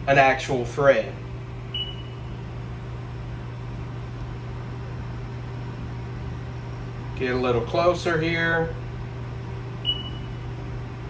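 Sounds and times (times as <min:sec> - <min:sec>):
lathe electrical hum: 0:00.0 - 0:11.0.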